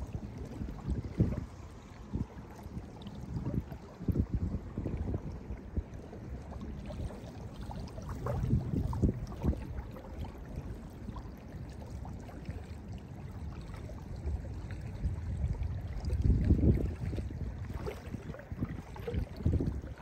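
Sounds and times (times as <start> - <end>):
waves lapping on sandy shore: 0.0 - 20.0.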